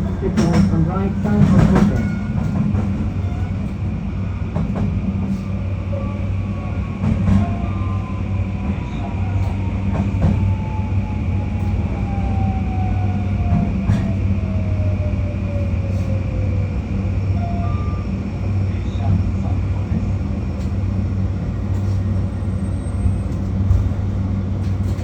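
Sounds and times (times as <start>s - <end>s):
train rolling rumble: 0.0s - 25.0s.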